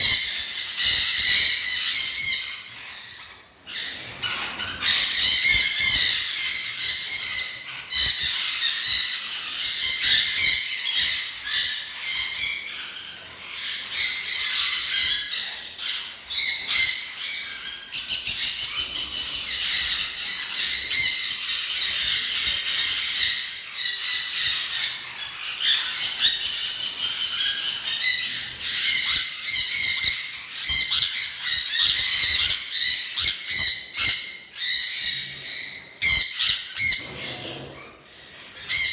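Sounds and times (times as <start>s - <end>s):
flock of birds chattering: 0.0s - 38.9s.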